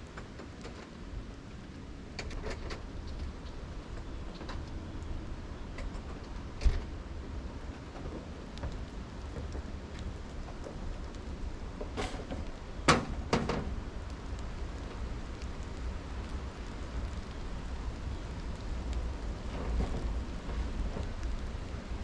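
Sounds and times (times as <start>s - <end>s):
rain hissing: 0.0s - 22.0s.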